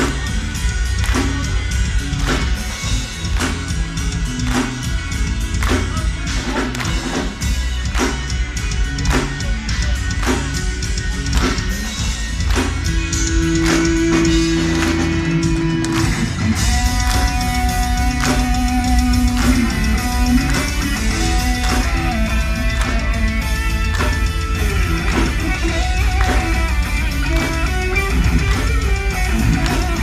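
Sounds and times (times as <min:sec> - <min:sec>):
heavy metal band playing: 0:00.0 - 0:30.0.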